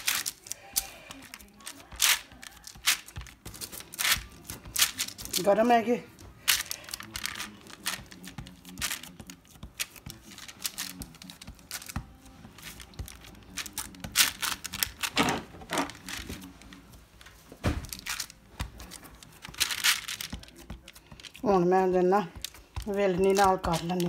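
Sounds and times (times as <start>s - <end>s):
foil crinkling: 0.0s - 24.0s.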